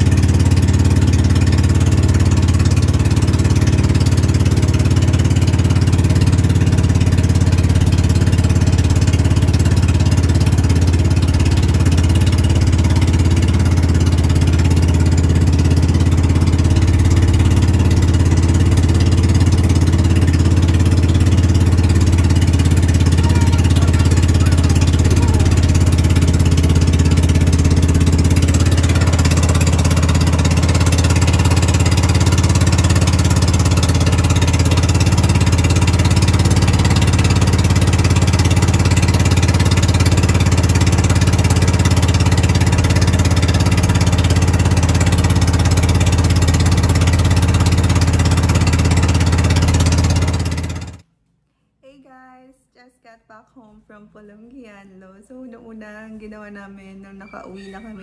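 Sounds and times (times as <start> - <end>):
boat engine drone: 0.0 - 51.0.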